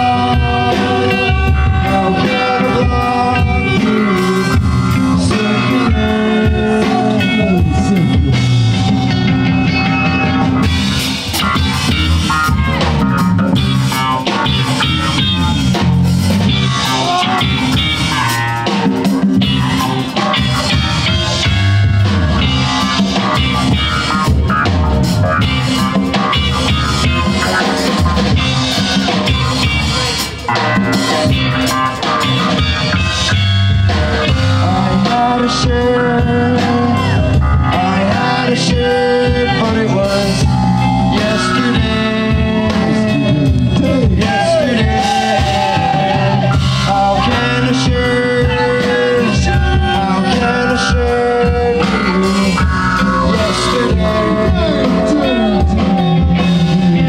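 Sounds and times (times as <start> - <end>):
bass: 0.0 - 57.0
drum kit with cymbals: 0.0 - 57.0
electric guitar: 0.0 - 57.0.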